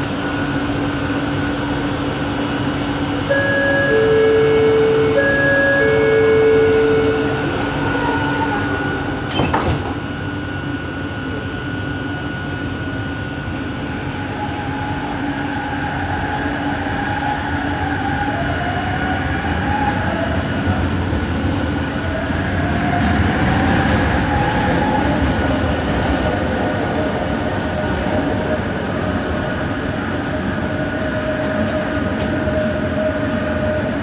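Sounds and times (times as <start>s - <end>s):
train rolling rumble: 0.0s - 34.0s.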